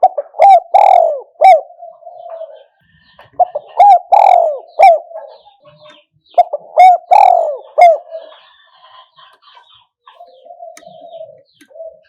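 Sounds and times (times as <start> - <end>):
dove cooing: 0.0 - 12.0
faint high bird chirping: 1.6 - 12.0.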